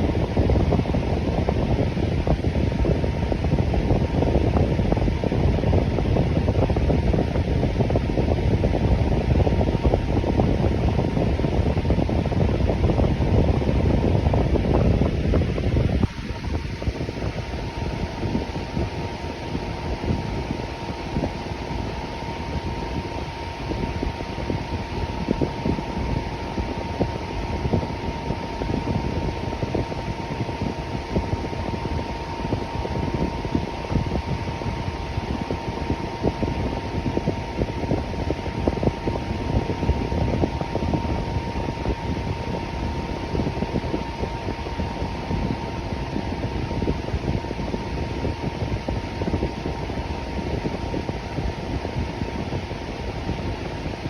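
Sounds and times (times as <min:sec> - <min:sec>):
electric fan running: 0:00.0 - 0:54.0
faint steady hum: 0:00.0 - 0:54.0.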